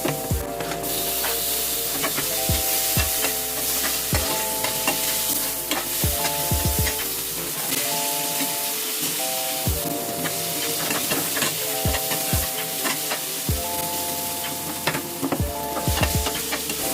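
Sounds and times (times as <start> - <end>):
onions sizzling in oil: 0.8 - 14.9.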